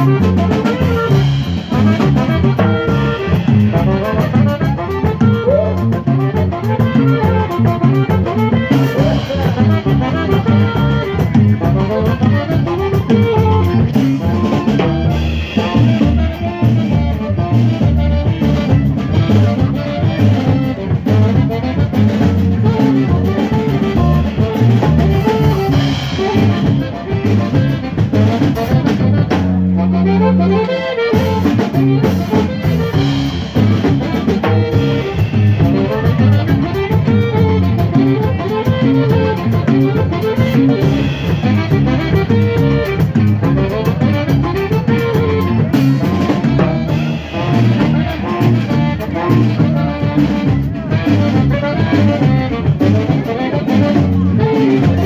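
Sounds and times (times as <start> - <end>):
drum kit beat: 0.0 - 55.0
live band playing dance music: 0.0 - 55.0
saxophone: 0.0 - 55.0.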